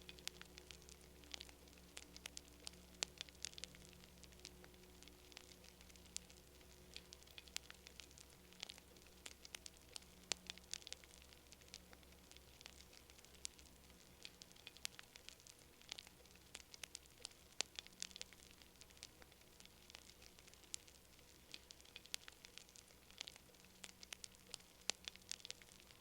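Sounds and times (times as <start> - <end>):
faint low hiss: 0.0 - 26.0
wood fire crackling: 0.0 - 26.0.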